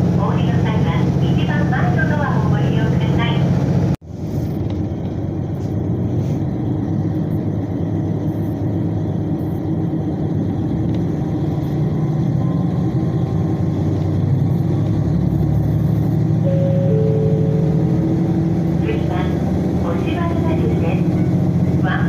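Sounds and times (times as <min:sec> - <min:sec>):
train engine low hum: 0:00.0 - 0:22.0.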